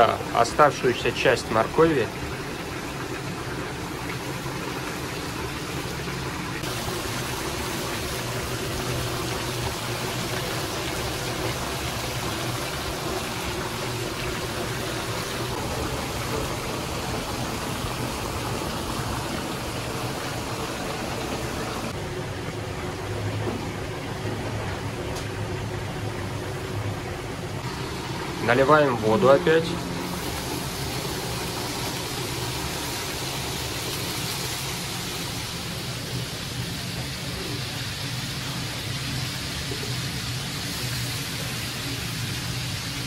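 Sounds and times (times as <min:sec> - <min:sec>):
water rushing hiss: 0:00.0 - 0:22.0, 0:27.6 - 0:43.0.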